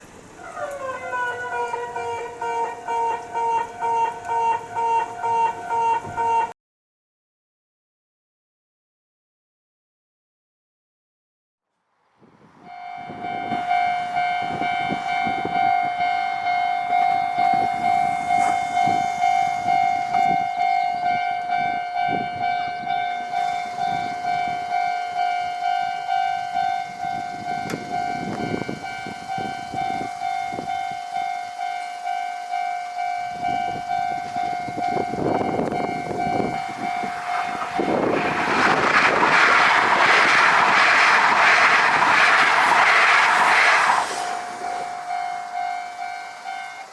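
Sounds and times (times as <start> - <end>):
train passing over rails: 0.0 - 6.5, 11.9 - 46.9
level crossing alarm pulsing: 0.4 - 6.5, 12.6 - 46.9.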